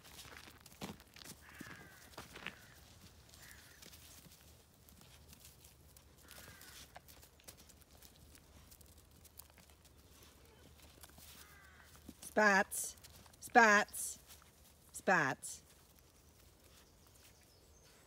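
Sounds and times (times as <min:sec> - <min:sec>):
animals scuffling on gravel: 0:00.0 - 0:18.0.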